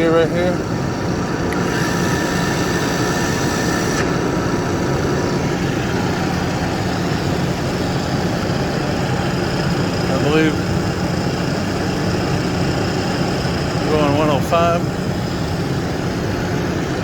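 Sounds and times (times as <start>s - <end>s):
drill press humming: 0.0s - 17.0s.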